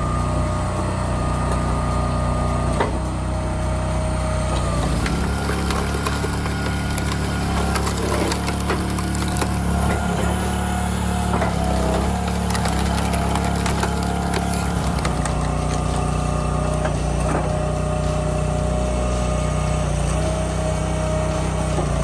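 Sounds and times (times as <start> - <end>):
machinery engine droning: 0.0 - 22.0.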